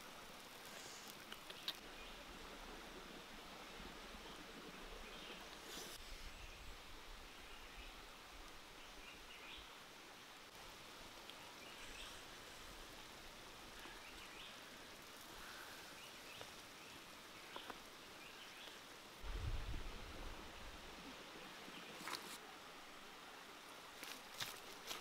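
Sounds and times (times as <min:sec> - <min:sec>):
faint outdoor hiss: 0:00.0 - 0:25.0.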